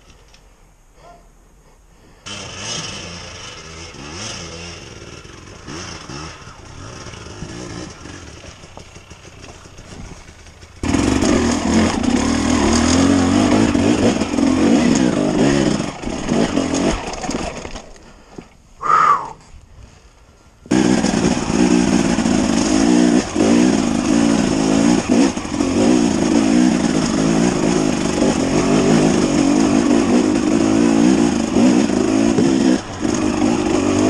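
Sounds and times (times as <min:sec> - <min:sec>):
loud close dirt bike engine revving: 0:02.3 - 0:17.7, 0:20.7 - 0:34.0
dirt bike engine revving: 0:02.3 - 0:18.0, 0:20.7 - 0:34.0.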